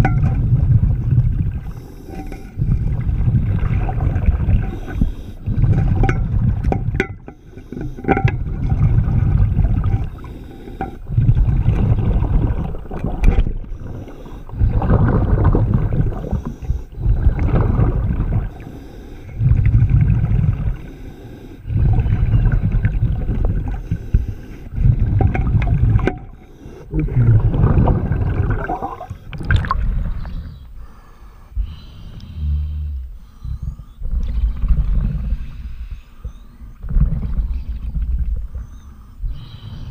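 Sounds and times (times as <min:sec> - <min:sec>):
exhaled bubbles rumbling: 0:00.0 - 0:39.9
regulator breathing underwater: 0:01.5 - 0:39.9.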